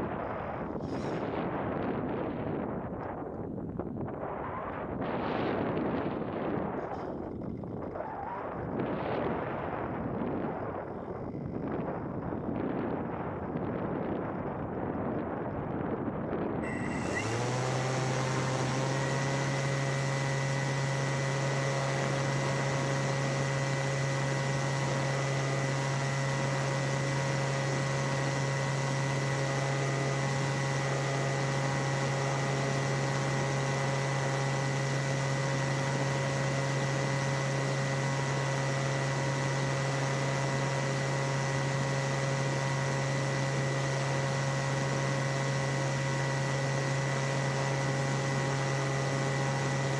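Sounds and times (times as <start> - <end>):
paramotor engine running: 0.0 - 3.3, 5.0 - 49.9.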